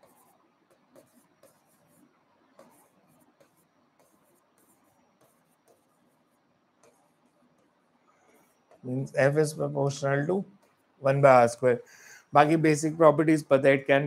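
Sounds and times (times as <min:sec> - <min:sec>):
stylus scratching on screen: 0:00.0 - 0:14.0.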